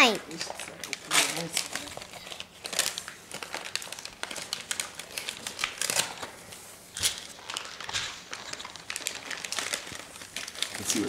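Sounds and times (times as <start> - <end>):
wrapping paper rustling: 0.0 - 11.0
crinkly plastic wrapper crackling: 0.3 - 11.0.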